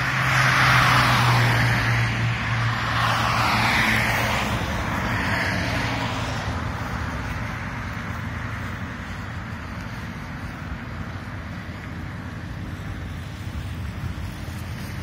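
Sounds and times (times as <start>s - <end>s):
car passing: 0.0s - 15.0s
low traffic rumble: 0.0s - 15.0s.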